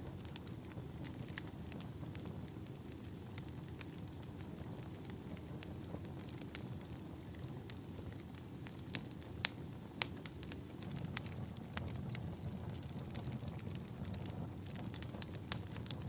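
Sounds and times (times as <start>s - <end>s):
fire popping and snapping: 0.0s - 16.0s
fire rumble of burning logs: 0.0s - 16.0s.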